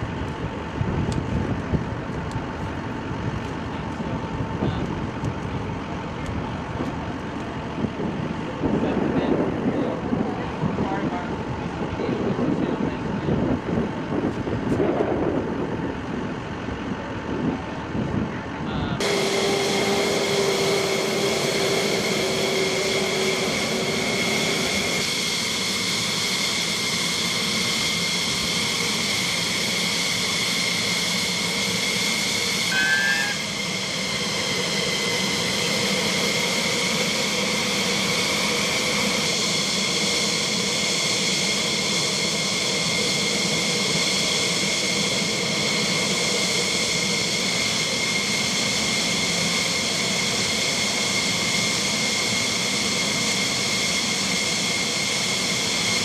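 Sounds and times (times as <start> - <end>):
jet engine high whine: 0.0 - 56.0
jet engine rumble: 0.0 - 56.0.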